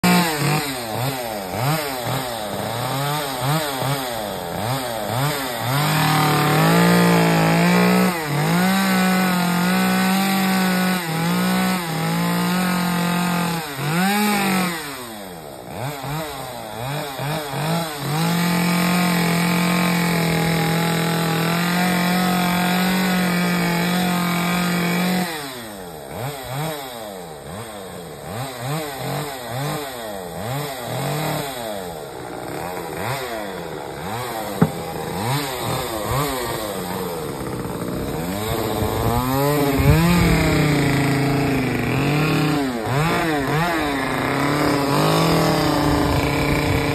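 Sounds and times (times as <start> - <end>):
chainsaw cutting and idling: 0.0 - 46.9.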